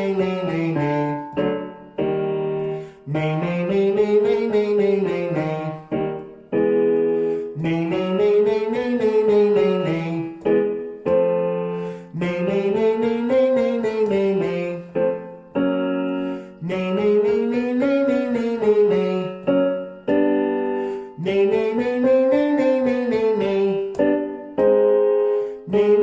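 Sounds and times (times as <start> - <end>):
person singing a scale: 0.0 - 2.0, 2.6 - 26.0
piano chord: 0.0 - 26.0.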